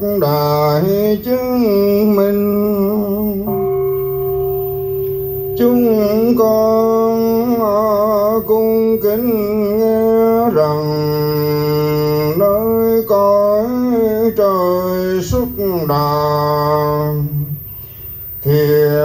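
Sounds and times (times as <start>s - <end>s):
man singing a liturgical chant: 0.0s - 3.5s, 5.6s - 17.6s, 18.4s - 19.0s.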